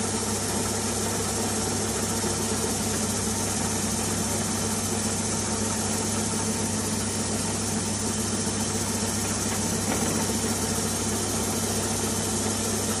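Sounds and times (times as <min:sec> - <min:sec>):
milling machine motor hum: 0:00.0 - 0:13.0.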